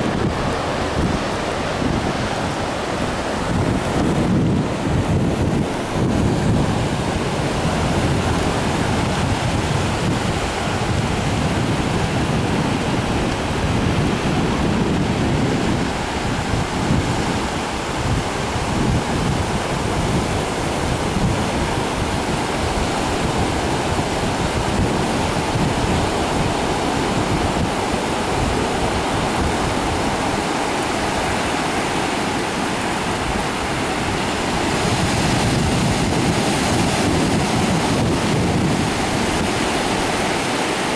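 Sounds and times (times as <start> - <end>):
ocean surf breaking on beach: 0.0 - 40.9
wind buffeting microphone: 0.0 - 40.9.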